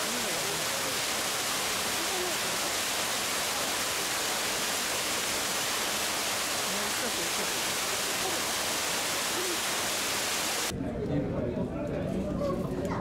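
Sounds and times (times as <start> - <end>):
faint voices: 0.0 - 4.4, 6.3 - 13.0
waterfall splashing into pool: 0.0 - 10.7.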